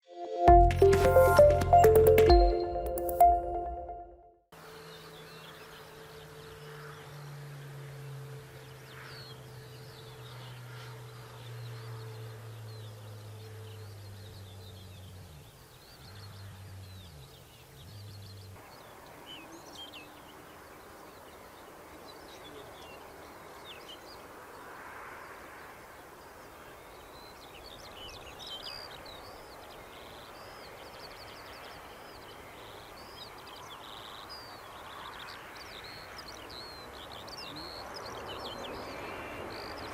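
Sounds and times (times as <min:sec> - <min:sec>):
birds chirping: 0:04.6 - 0:24.5, 0:26.0 - 0:39.9.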